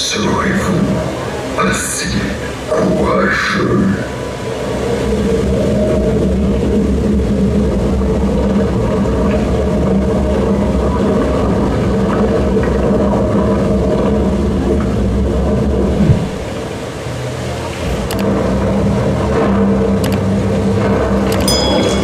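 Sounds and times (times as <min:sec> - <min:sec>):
low rumbling drone soundtrack: 0:00.0 - 0:22.0.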